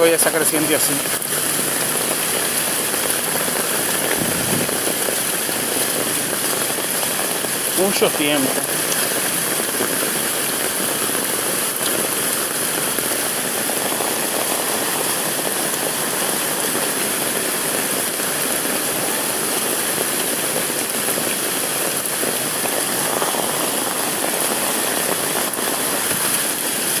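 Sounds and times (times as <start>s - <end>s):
roar of flooded river: 0.0s - 27.0s.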